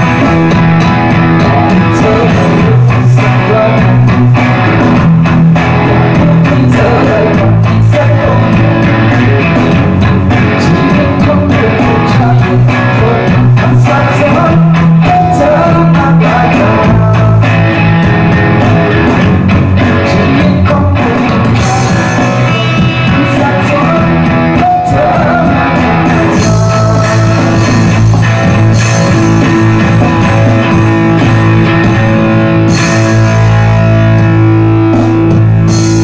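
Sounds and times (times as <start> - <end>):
electric guitar rock chords: 0.0 - 36.0.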